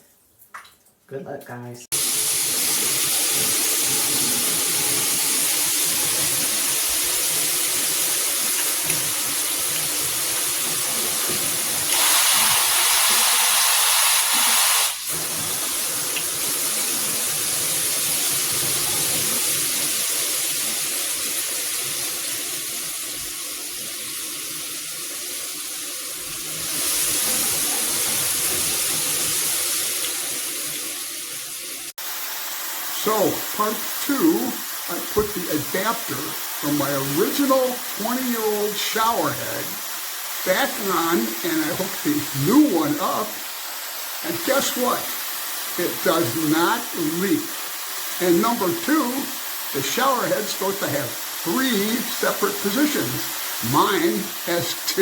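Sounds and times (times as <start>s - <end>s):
water spraying from shower head: 1.9s - 55.0s.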